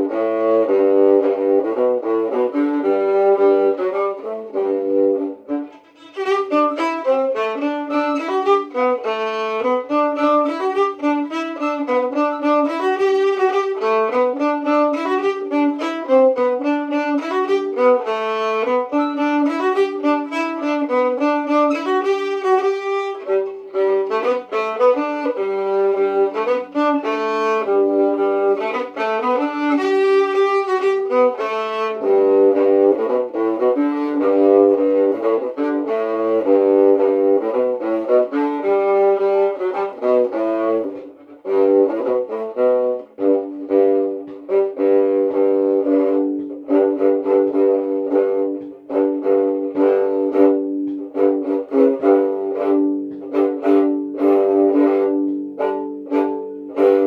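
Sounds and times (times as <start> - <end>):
fiddle playing folk tune: 0.0 - 57.0.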